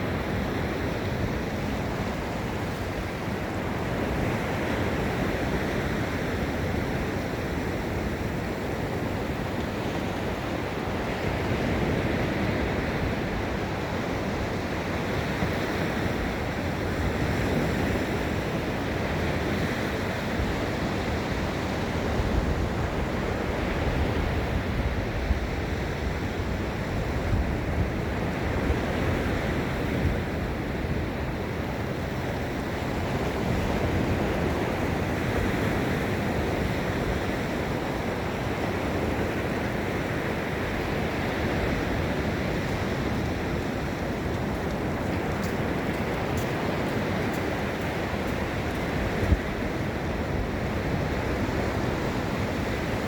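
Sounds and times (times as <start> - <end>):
ocean waves breaking on beach: 0.0 - 53.0
wind rumbling on microphone: 0.0 - 53.0.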